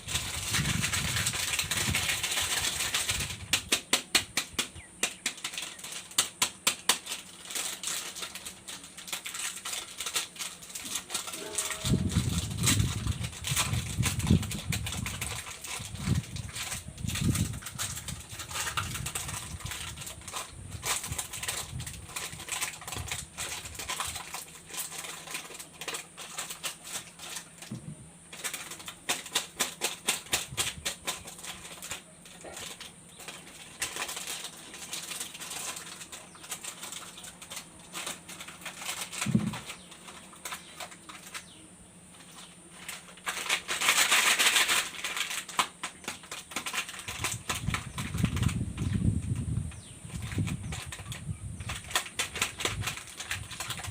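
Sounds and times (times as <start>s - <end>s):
wrappers crinkling: 0.0s - 53.9s.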